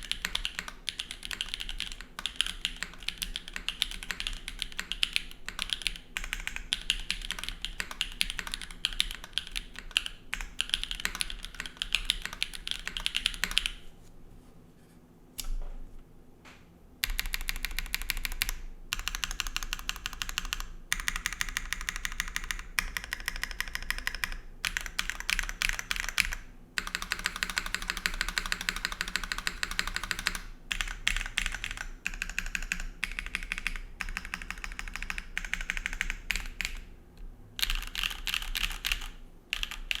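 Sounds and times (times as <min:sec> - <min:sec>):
fast mechanical keyboard typing: 0:00.0 - 0:13.8, 0:17.0 - 0:36.9, 0:37.6 - 0:40.0.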